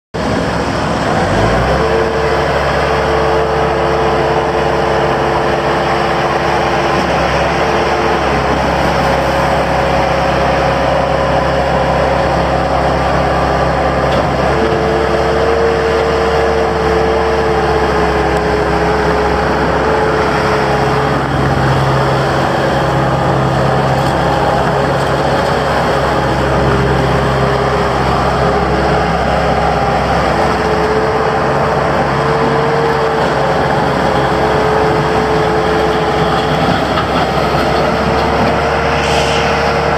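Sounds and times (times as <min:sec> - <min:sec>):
diesel engine running: 0:00.2 - 0:39.9
engine whining tone: 0:00.3 - 0:39.9.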